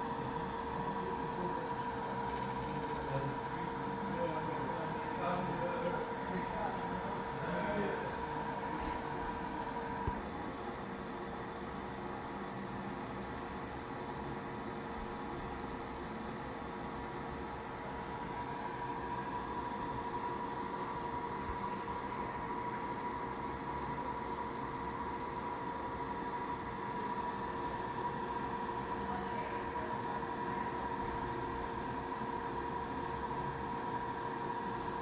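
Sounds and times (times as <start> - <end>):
small machine humming: 0.0 - 35.0.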